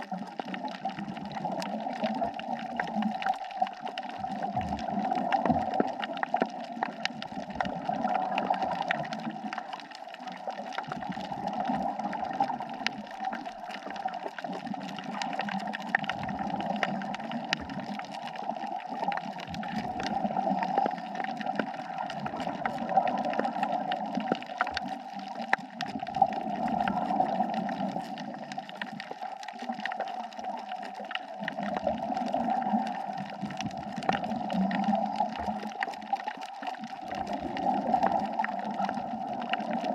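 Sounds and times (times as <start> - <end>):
fine clicks crackling: 0.0 - 39.9
underwater breathing bubbles gurgling: 0.0 - 39.9.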